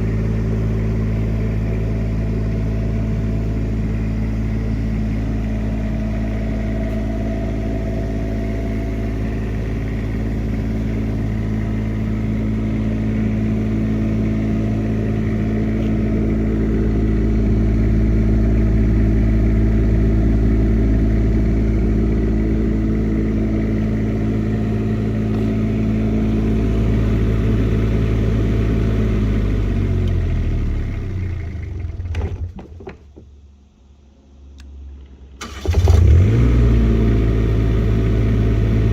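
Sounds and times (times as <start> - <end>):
generator engine winding down: 0.0 - 32.5, 34.6 - 38.9
diesel generator running: 0.0 - 38.9.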